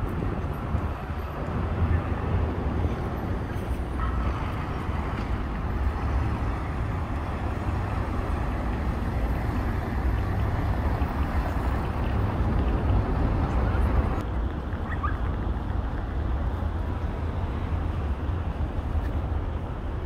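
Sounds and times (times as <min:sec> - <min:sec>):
traffic hum: 0:00.0 - 0:20.0
wind rumble on microphone: 0:00.0 - 0:20.0.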